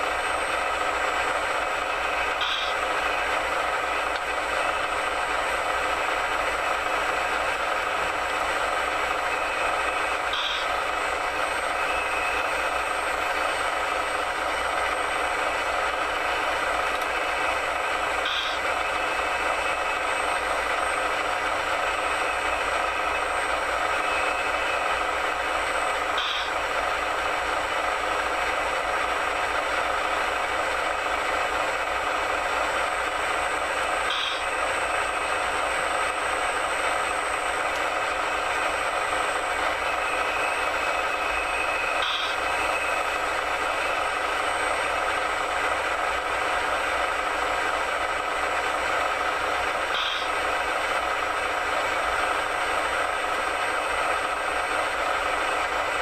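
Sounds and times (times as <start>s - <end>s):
small motors and gears whirring: 0.0s - 55.9s.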